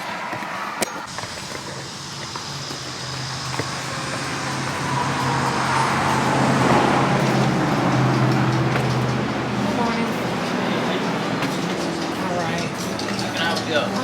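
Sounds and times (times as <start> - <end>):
road noise: 0.0 - 14.0
vehicle engine humming: 0.0 - 14.0.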